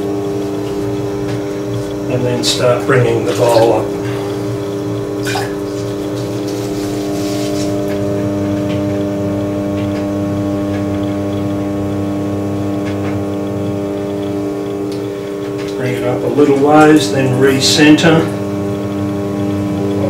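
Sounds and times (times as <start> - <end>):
potter's wheel motor humming: 0.0 - 20.0.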